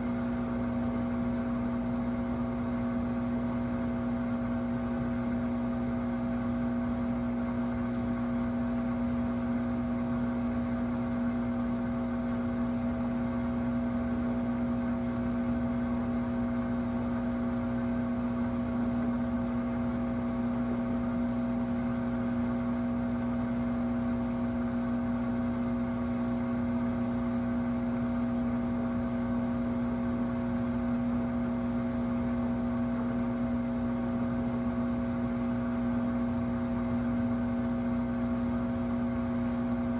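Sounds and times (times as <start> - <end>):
washing machine loud buzz: 0.0 - 39.9.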